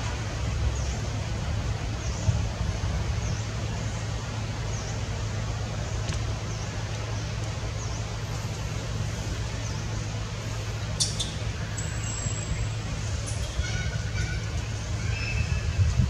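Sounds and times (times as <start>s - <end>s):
hiss over low hum: 0.0s - 16.0s.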